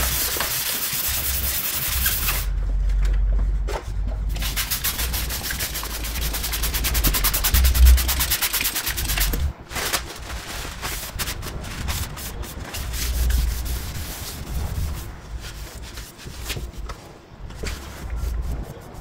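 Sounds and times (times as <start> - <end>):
cloth rubbing on car paint: 0.0 - 2.5, 4.3 - 19.0.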